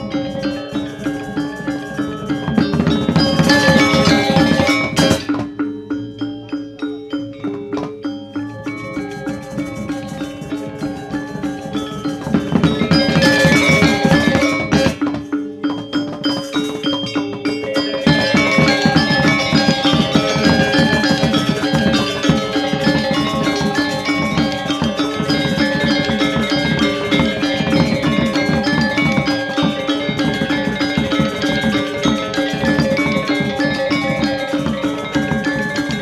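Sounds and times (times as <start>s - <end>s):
drums: 0.0s - 36.0s
metallophones ringing: 0.0s - 36.0s.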